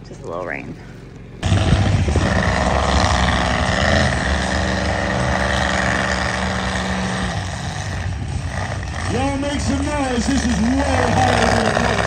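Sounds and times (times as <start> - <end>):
monster truck engines running: 0.0 - 12.0.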